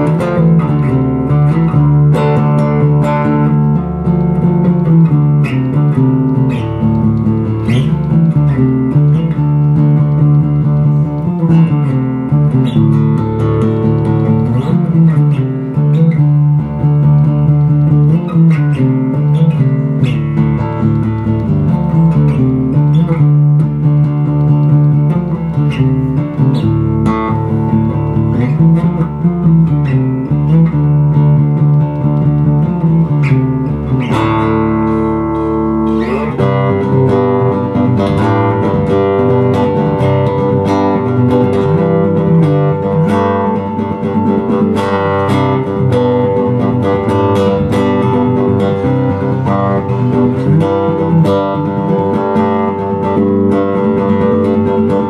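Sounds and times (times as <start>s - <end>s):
electric bass guitar fingerstyle: 0.0s - 55.0s.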